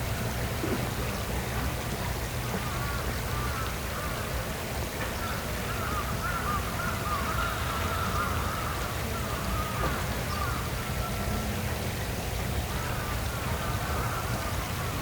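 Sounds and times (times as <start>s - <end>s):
flowing water rush: 0.0s - 15.0s.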